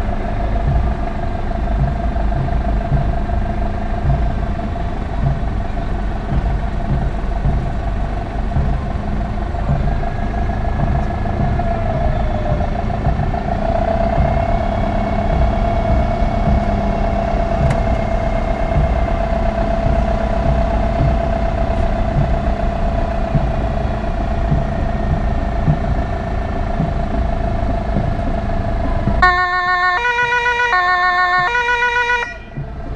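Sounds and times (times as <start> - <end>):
vehicle engine rumble and whine: 0.0 - 32.9.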